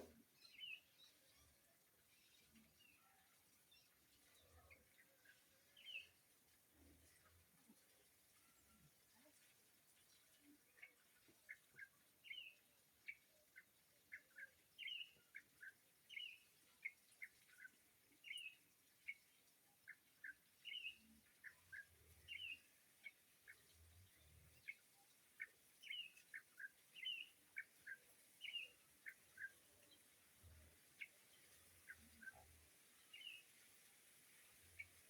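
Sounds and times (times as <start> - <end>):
faint bird chirps: 0.0 - 35.0.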